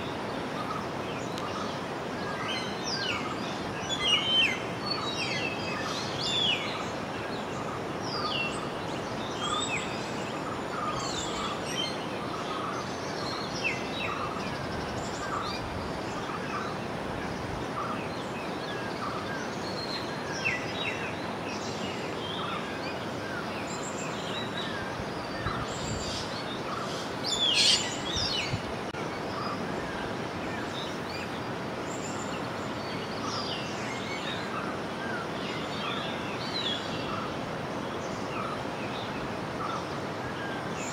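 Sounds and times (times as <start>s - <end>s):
river water flowing: 0.0s - 40.9s
small birds chirping: 0.0s - 40.9s.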